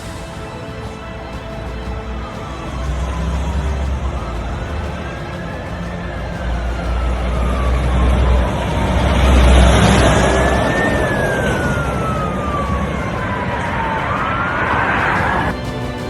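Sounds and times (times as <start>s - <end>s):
emergency siren wailing: 0.0s - 16.0s
heavy low rumble: 0.0s - 16.0s
road and engine noise: 0.0s - 16.0s.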